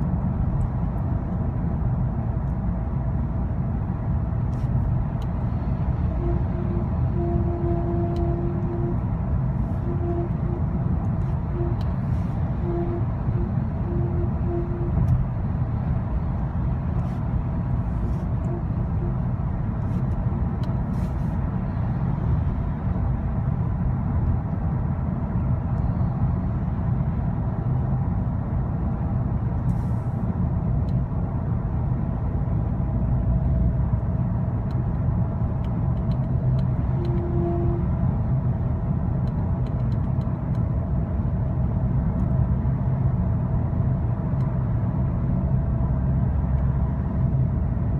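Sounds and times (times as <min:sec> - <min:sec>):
road and engine rumble: 0:00.0 - 0:47.9.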